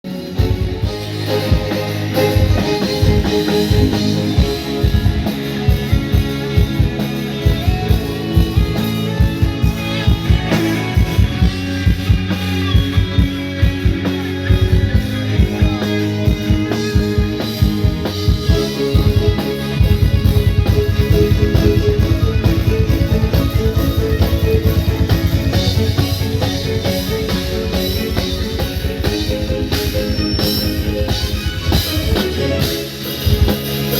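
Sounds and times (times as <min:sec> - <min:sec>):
rock band playing: 0:00.0 - 0:33.9.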